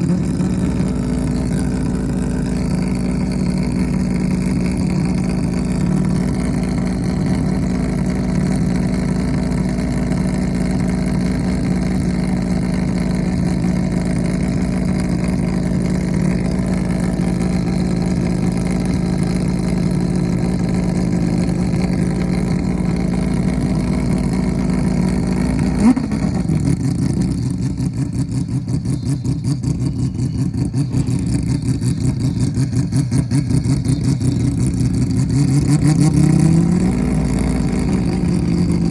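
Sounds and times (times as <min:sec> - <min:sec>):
rotary engine idling: 0:00.0 - 0:38.9.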